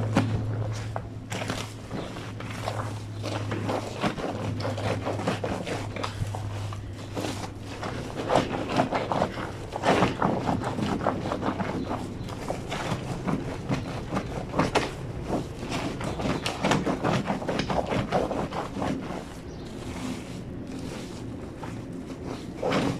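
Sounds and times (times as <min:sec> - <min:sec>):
wet blanket rubbing: 0:00.0 - 0:22.9.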